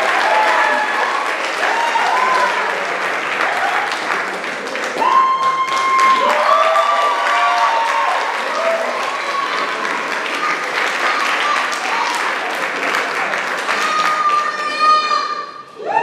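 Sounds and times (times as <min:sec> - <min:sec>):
high cheers: 0:00.0 - 0:04.2, 0:04.8 - 0:16.0
audience applauding: 0:00.0 - 0:15.2.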